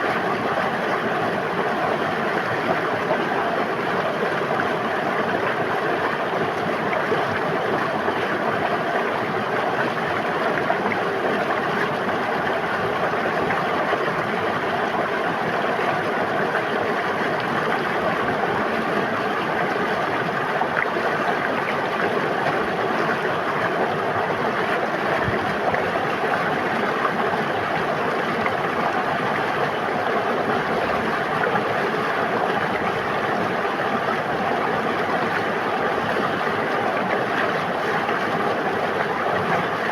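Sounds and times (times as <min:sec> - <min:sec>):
river water babbling over stones: 0:00.1 - 0:39.9.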